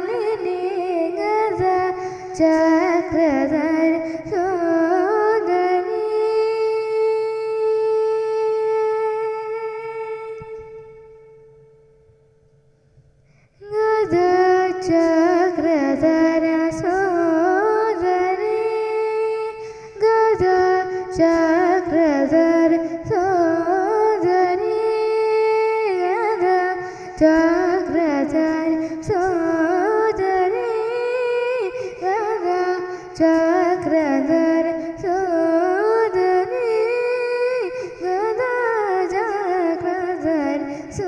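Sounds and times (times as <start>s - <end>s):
woman singing ornamented phrases: 0.0s - 12.0s, 13.6s - 41.0s.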